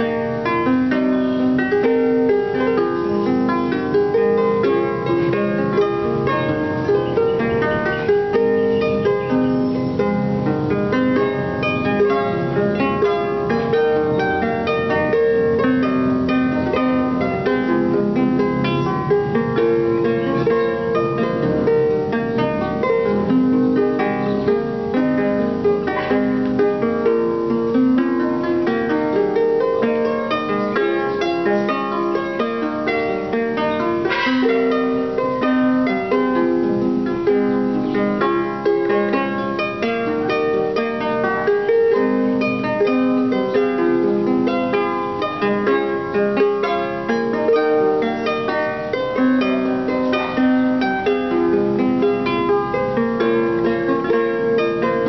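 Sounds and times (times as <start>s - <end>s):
harp plucked melody: 0.0s - 55.0s.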